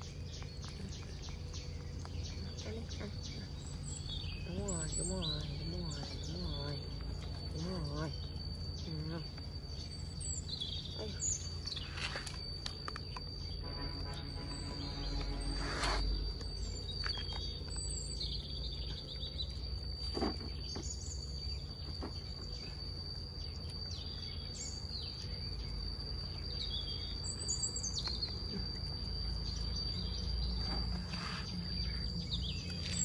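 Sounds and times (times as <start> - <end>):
birds chirping: 0.0 - 33.0
high insect drone: 0.0 - 33.0
low background rumble: 0.0 - 33.0.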